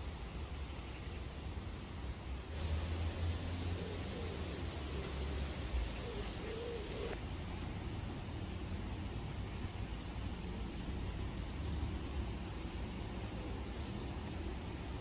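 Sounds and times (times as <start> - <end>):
steady hiss and low rumble: 0.0 - 15.0.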